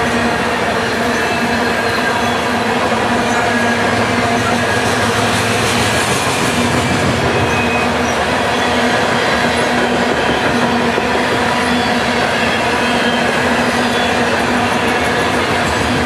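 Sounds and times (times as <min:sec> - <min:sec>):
steel train wheels on rail: 0:00.0 - 0:16.0.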